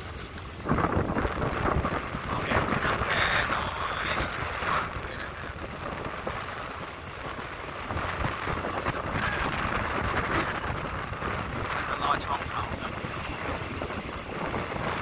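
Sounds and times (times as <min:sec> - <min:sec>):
train running noise: 0:00.0 - 0:15.0
wind buffeting microphone: 0:00.0 - 0:15.0.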